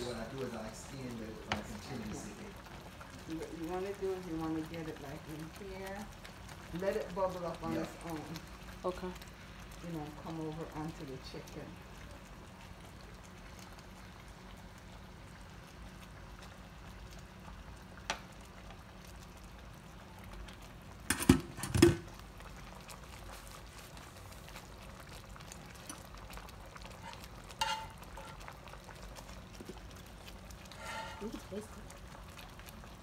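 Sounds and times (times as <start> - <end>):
glaze bubbling in a skillet: 0.0 - 33.0.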